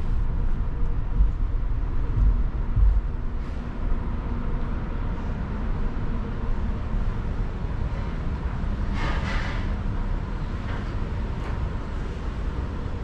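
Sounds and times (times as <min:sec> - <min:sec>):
low rumble of ship interior: 0:00.0 - 0:13.0.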